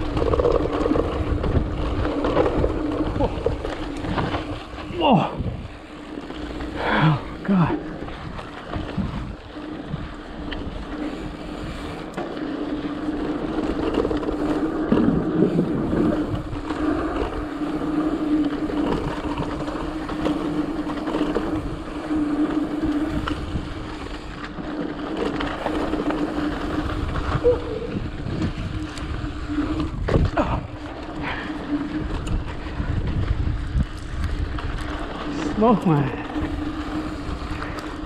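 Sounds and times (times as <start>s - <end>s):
bike tyres on dirt trail: 0.0s - 38.0s
buzzing hum: 0.0s - 38.0s.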